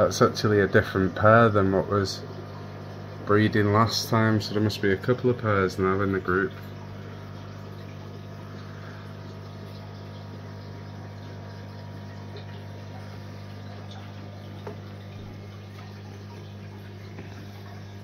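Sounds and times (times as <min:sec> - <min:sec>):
aquarium pump humming: 0:00.0 - 0:18.0
water flowing through pipes: 0:00.0 - 0:18.0.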